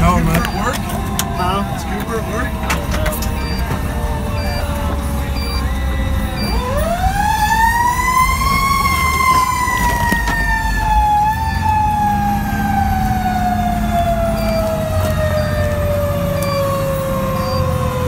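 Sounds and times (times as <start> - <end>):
fire engine siren: 0.0 - 18.0
truck engine rumble: 0.0 - 18.0.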